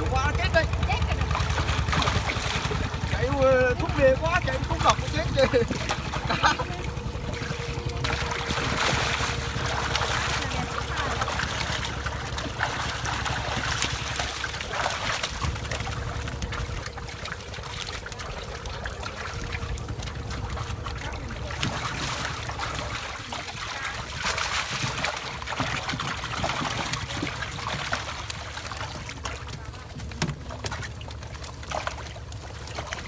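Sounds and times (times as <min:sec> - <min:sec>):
water sloshing and splashing: 0:00.0 - 0:33.0.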